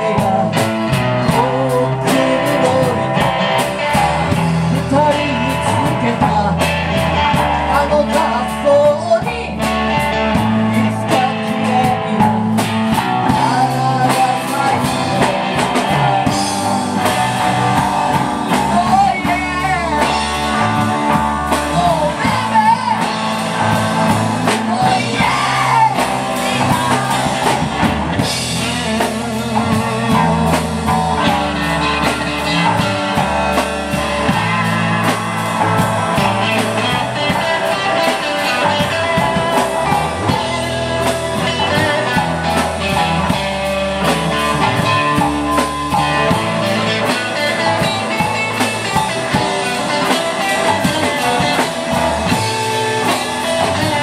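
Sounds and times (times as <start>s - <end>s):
drum kit: 0.0s - 54.0s
electric guitars: 0.0s - 54.0s
male vocalist singing: 0.0s - 54.0s.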